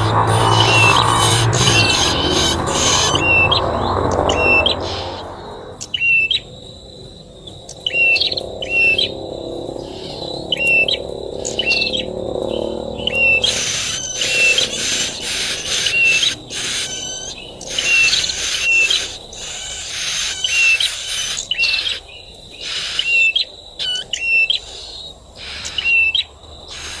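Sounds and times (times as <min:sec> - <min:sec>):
bird chirping sharply: 0:00.0 - 0:06.5, 0:09.8 - 0:27.0.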